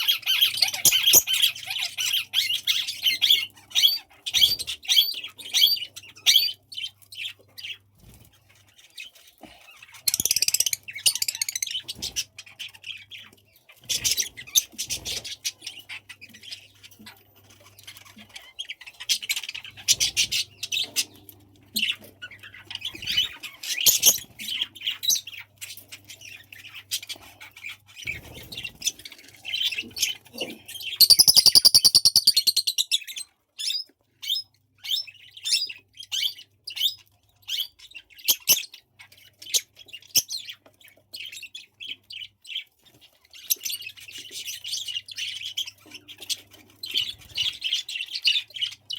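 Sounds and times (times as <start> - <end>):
budgies chirping: 0.0 - 48.9.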